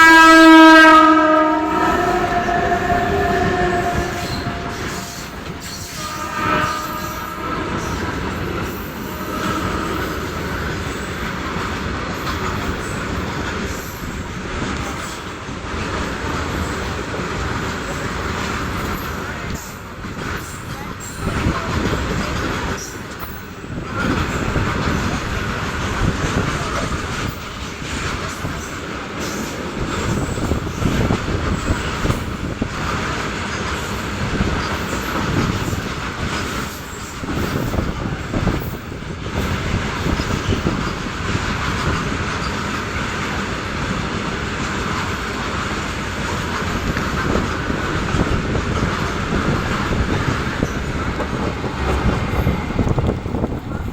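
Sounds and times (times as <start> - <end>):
freight train wheels on rails: 0.0 - 53.9.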